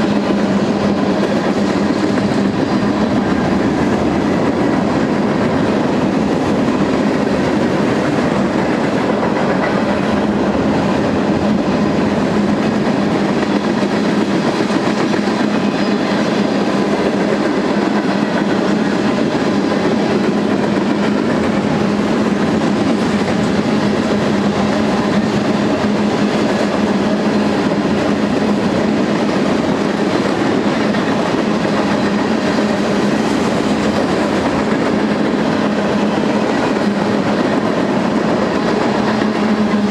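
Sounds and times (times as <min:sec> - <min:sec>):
freight train cars rolling past: 0:00.0 - 0:39.9.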